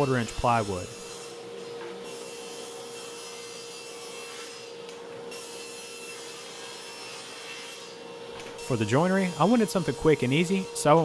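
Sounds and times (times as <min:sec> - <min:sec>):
table saw cutting plywood: 0:00.0 - 0:11.0.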